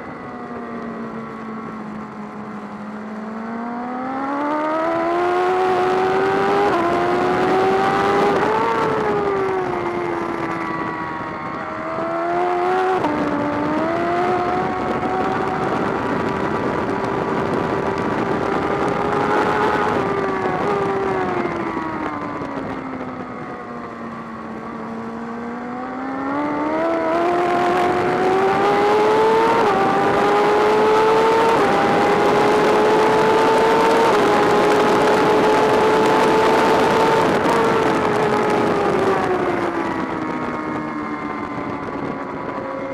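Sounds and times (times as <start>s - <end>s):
wind rushing over microphone: 0.0s - 42.9s
motorcycle engine revving: 0.7s - 42.9s.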